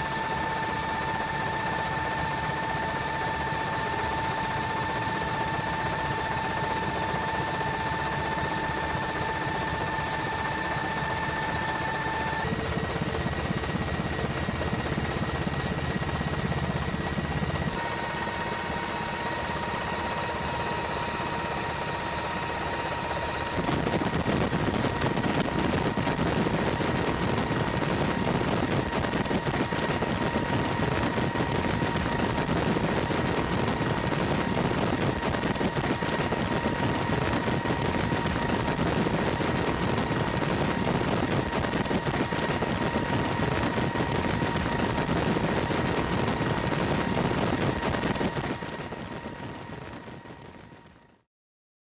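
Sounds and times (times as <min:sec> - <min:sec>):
helicopter turbine and rotor: 0:00.0 - 0:51.3.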